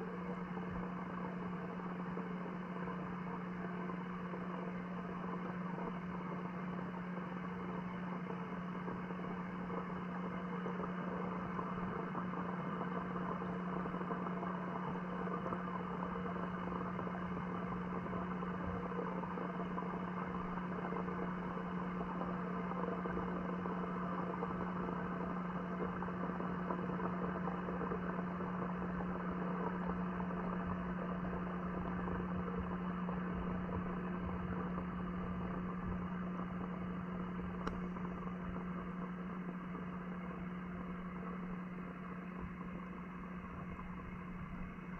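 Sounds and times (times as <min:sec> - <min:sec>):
machine hum underwater: 0:00.0 - 0:44.9.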